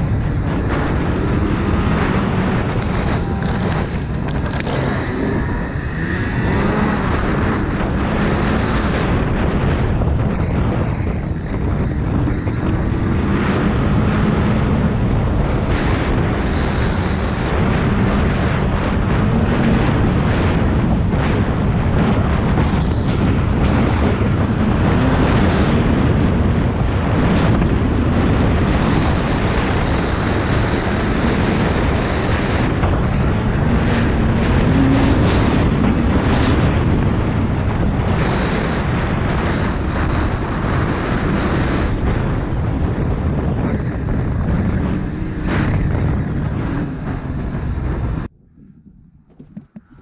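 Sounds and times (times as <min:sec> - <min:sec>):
snowmobile engine and track noise: 0:00.0 - 0:50.0
wind on the microphone: 0:00.0 - 0:50.0.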